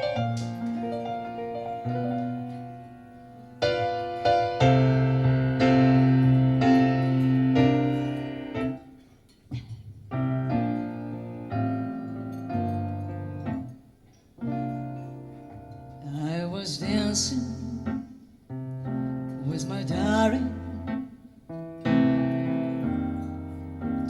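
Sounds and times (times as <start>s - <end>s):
piano music through car speakers: 0.0s - 8.9s, 10.1s - 24.0s.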